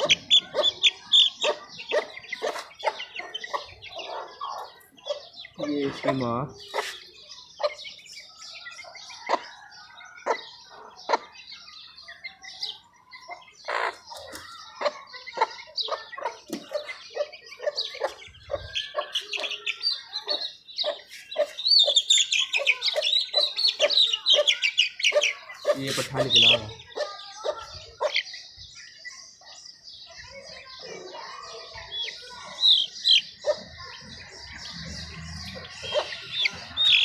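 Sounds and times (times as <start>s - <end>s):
hen clucking: 0.0s - 8.0s, 10.2s - 11.4s, 13.2s - 28.3s, 31.0s - 37.0s
chicks cheeping: 0.0s - 37.0s.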